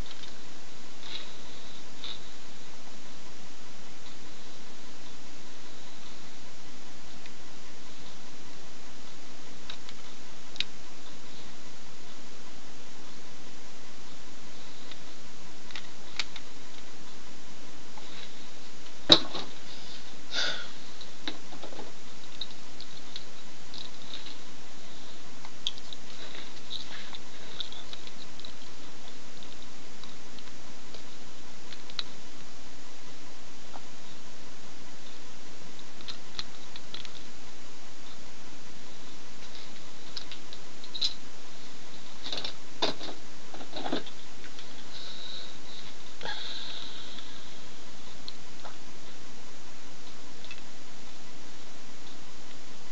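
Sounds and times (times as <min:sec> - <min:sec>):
steady hiss: 0:00.0 - 0:52.9
thin high whine: 0:00.0 - 0:52.9.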